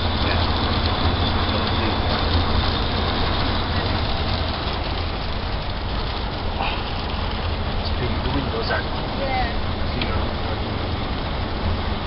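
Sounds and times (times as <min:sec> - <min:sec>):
van cabin rumble and hiss: 0:00.0 - 0:12.0.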